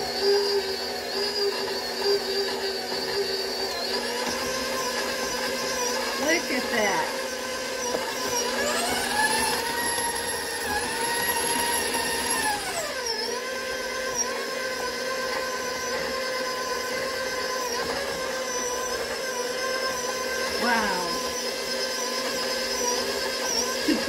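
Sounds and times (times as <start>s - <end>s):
stand mixer motor whining: 0.0s - 24.0s.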